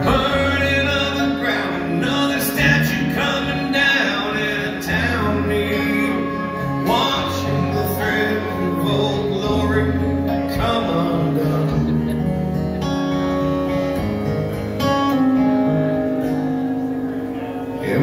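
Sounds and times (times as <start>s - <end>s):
acoustic guitars playing country music: 0.0s - 18.0s.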